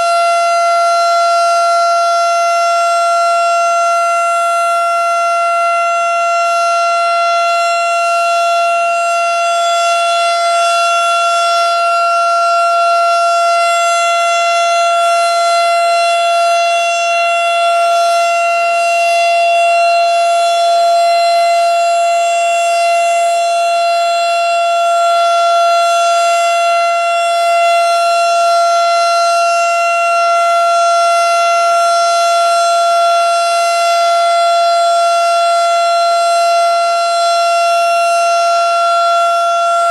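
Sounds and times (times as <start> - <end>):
tornado warning siren steady tone: 0.0 - 39.9.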